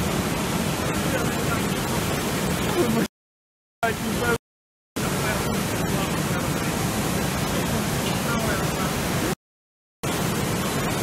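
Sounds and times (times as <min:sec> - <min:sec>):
floodwater rushing: 0:00.0 - 0:03.1, 0:03.8 - 0:04.4, 0:05.0 - 0:09.4, 0:10.0 - 0:11.0
heavy rain: 0:00.0 - 0:03.1, 0:03.8 - 0:04.4, 0:05.0 - 0:09.4, 0:10.0 - 0:11.0.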